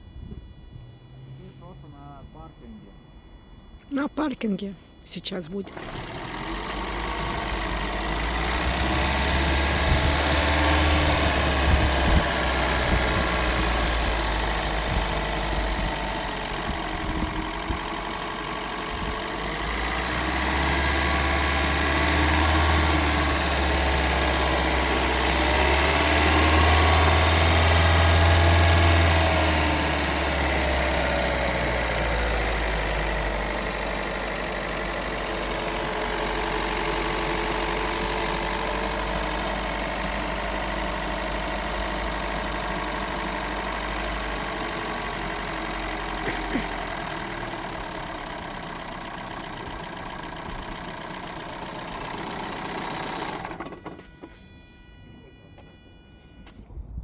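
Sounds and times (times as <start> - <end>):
car engine revving: 5.7 - 55.0.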